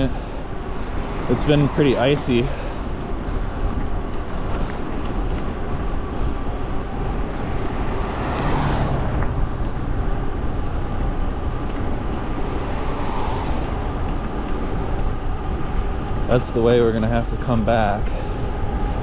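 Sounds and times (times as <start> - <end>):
road rumble: 0.0 - 19.0
vehicle passing: 0.0 - 19.0
wind: 0.0 - 19.0.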